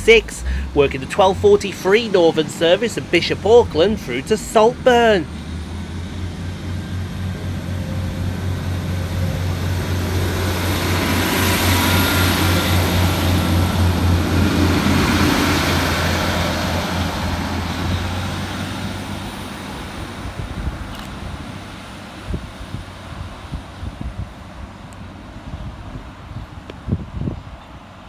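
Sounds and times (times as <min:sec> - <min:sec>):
diesel train engine drone: 0:00.0 - 0:28.0
wheel-on-rail noise: 0:00.0 - 0:28.0.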